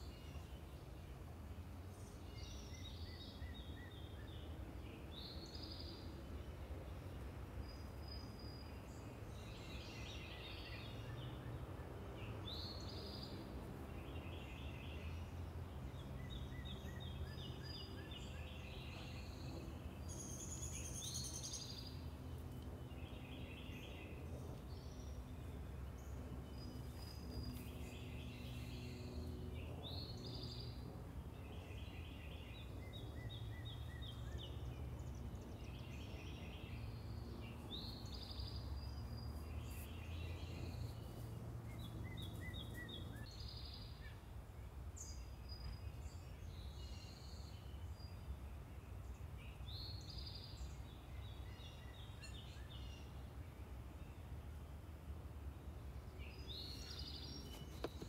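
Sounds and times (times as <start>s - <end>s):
distant traffic rumble: 0.0s - 58.0s
songbirds singing: 0.0s - 58.0s.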